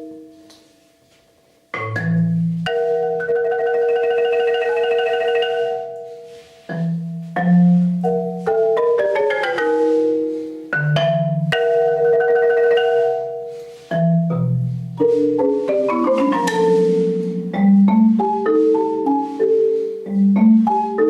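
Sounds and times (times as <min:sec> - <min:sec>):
marimba played with mallets: 0:00.0 - 0:00.9, 0:01.7 - 0:21.0.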